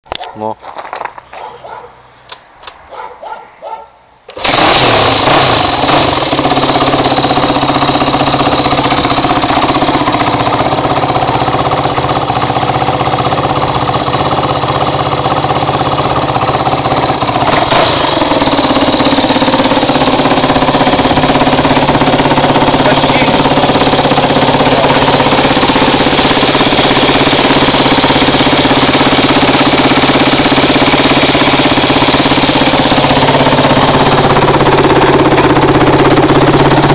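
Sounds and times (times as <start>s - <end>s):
motorcycle engine starting and idling: 4.3s - 36.9s.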